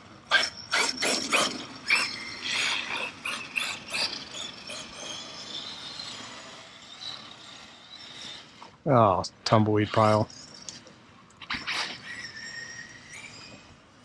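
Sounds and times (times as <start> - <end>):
motor and gear whine: 0.0 - 14.0
rc truck drivetrain clattering: 0.0 - 14.0.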